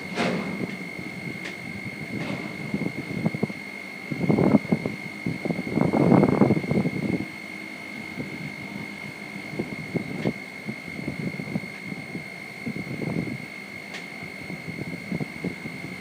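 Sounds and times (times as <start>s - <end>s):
high-pitched alarm buzzer: 0.0s - 16.0s
wind gusts on microphone: 0.1s - 16.0s.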